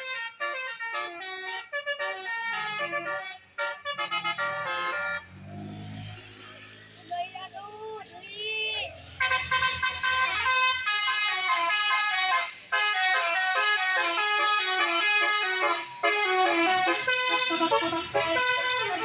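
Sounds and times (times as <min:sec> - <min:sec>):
musical bus air horns: 0:00.0 - 0:05.8, 0:09.1 - 0:19.0.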